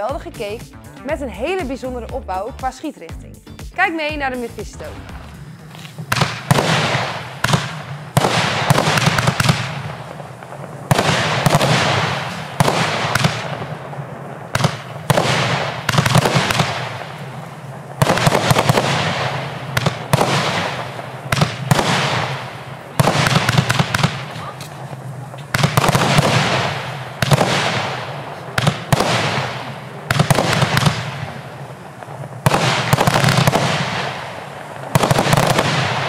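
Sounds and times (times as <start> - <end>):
fireworks hiss: 3.9 - 36.0
fireworks cake firing shots: 4.6 - 36.0.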